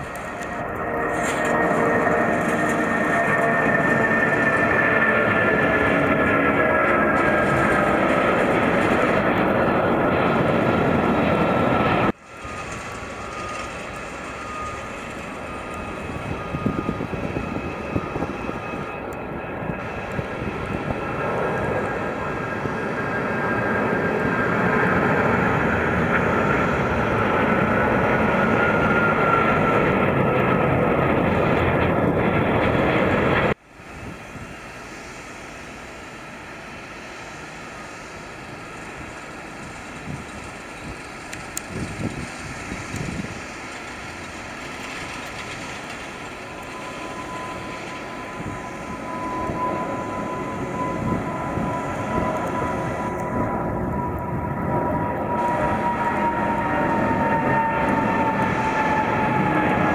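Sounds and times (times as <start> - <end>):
distant jet on takeoff roll: 0.0 - 59.9
jet engines at takeoff thrust: 0.0 - 59.9.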